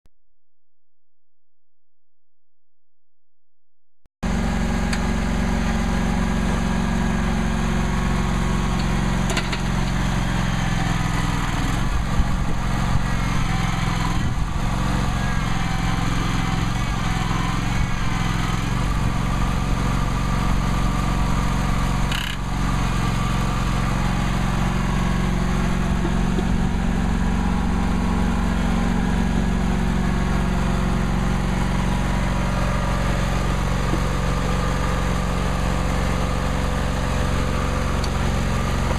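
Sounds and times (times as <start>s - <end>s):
lawn tractor engine running: 4.2s - 38.9s.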